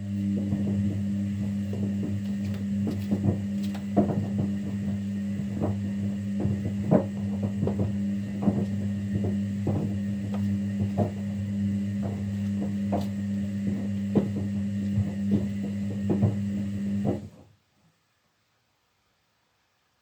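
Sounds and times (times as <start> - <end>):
washing machine hum: 0.0 - 17.6
washing machine knocks and clunks: 0.4 - 17.4.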